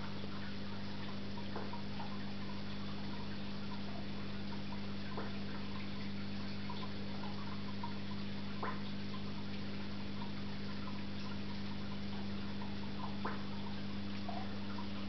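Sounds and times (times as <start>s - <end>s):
aquarium filter pump hum: 0.0s - 15.0s
light water drips: 0.0s - 15.0s
small ticks: 0.0s - 15.0s.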